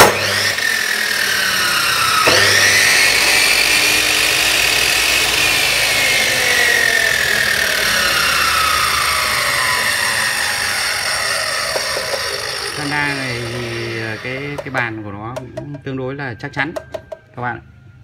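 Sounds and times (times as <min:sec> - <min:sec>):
chop saw motor whining: 0:00.0 - 0:17.4.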